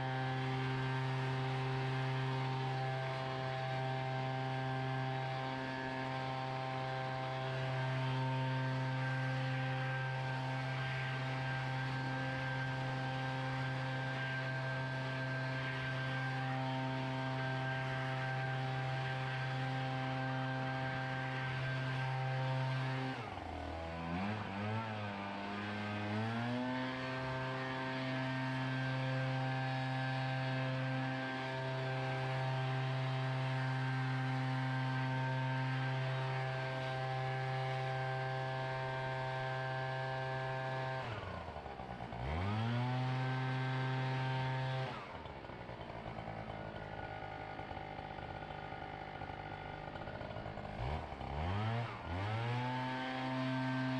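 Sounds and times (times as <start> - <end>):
small gas engine revving: 0.0 - 53.9.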